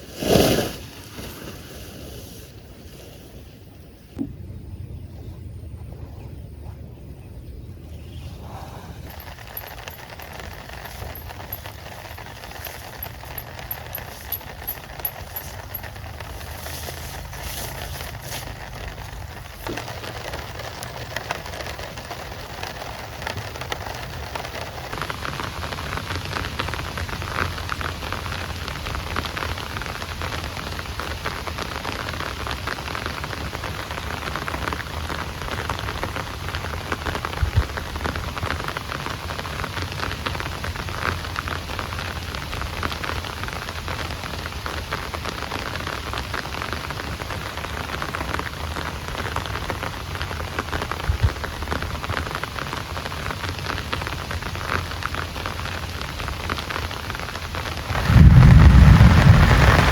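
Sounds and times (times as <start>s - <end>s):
heavy rain falling: 9.0s - 59.9s.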